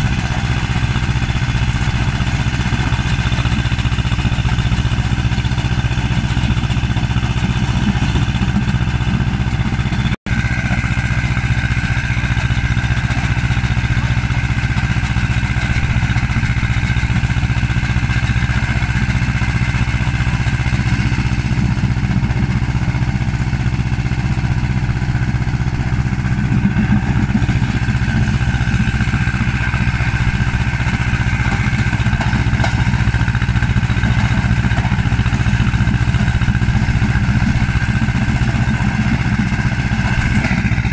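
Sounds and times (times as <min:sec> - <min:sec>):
stone-crushing machine drone: 0:00.0 - 0:40.9.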